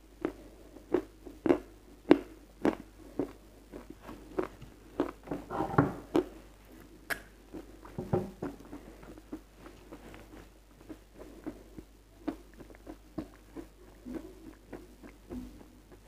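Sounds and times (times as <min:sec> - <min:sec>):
crunchy chewing: 0:00.2 - 0:05.2, 0:06.0 - 0:16.0.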